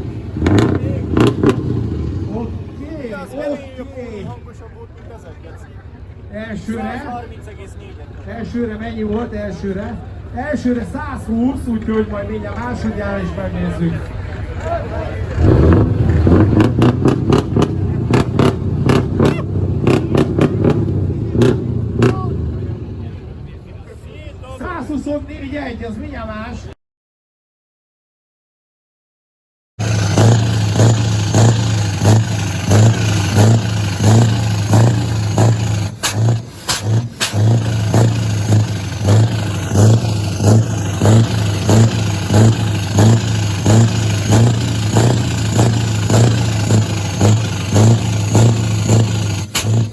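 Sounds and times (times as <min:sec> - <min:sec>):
diesel truck engine revving: 0:00.0 - 0:05.2, 0:06.4 - 0:23.7, 0:29.8 - 0:49.9.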